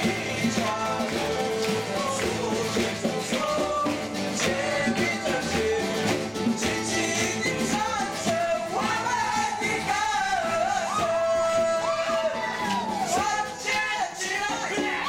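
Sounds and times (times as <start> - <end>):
group of people singing: 0.0 - 15.0
guitar accompaniment: 0.0 - 15.0.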